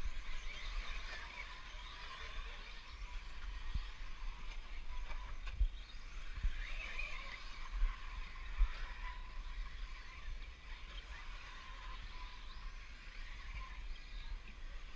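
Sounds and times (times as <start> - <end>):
rc cars whining: 0.0 - 14.9.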